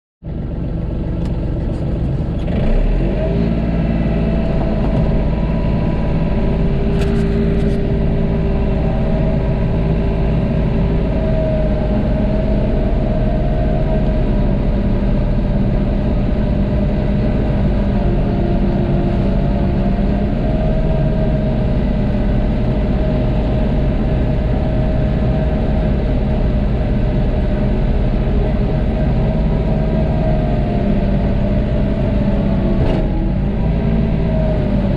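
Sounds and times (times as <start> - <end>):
tractor engine running: 0.2 - 34.9
wavering whine: 3.1 - 34.9.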